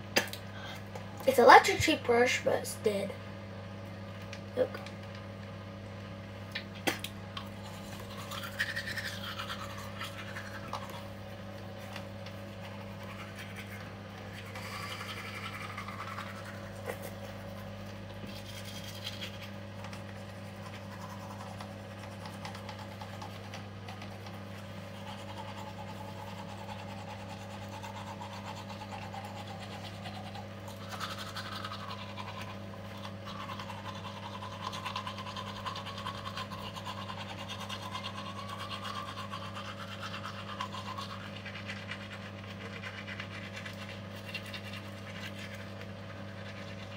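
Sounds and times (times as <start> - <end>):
steady low hum: 0.0 - 46.9
toothbrush scrubbing teeth: 7.4 - 11.1, 11.7 - 46.9.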